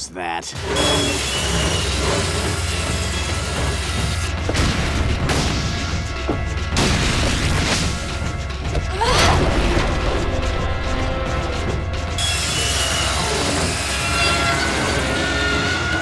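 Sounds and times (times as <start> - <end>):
dramatic action score music: 0.0 - 16.0.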